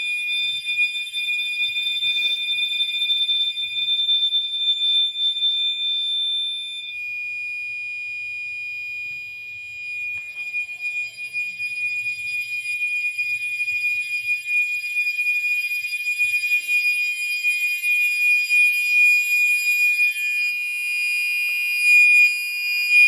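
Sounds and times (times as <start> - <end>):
high-pitched fire alarm horns: 0.0 - 23.0.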